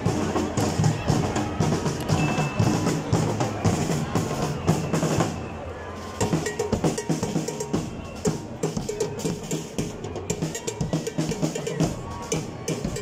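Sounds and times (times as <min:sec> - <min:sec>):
drum beats: 0:00.0 - 0:13.0
marching band playing: 0:00.0 - 0:13.0.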